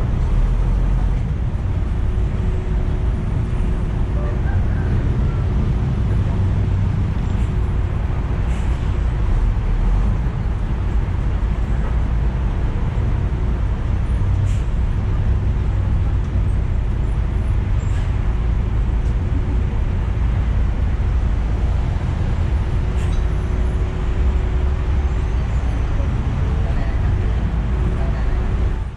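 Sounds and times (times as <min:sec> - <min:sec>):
bus engine and road rumble: 0:00.0 - 0:28.9.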